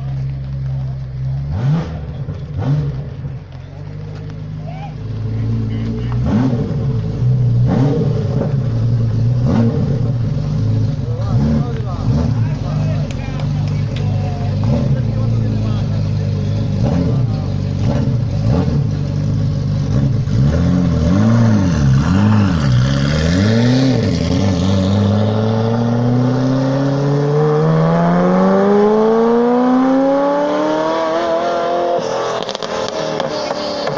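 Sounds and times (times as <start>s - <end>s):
sports car engine revving: 0.0s - 33.9s.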